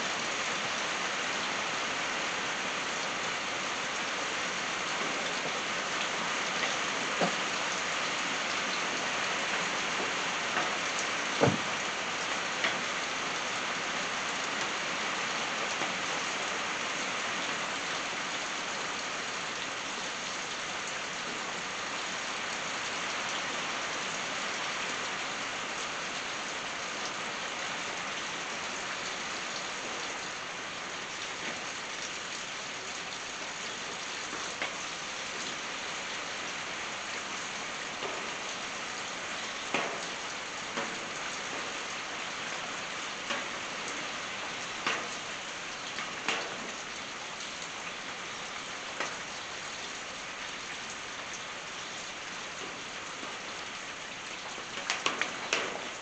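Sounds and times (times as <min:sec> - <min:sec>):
rain on a tin roof: 0:00.0 - 0:56.0.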